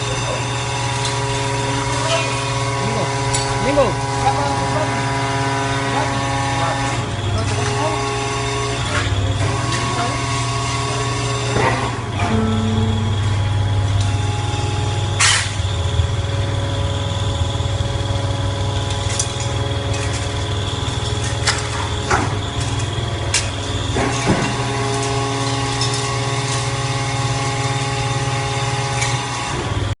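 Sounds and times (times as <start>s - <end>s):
baler motor humming: 0.0s - 30.0s.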